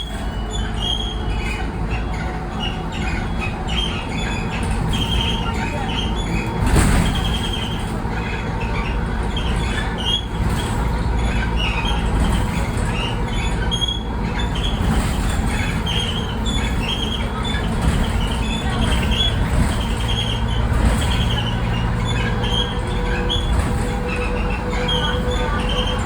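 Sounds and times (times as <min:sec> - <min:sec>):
bus parts squealing: 0:00.0 - 0:26.0
moving bus rumbling: 0:00.0 - 0:26.0.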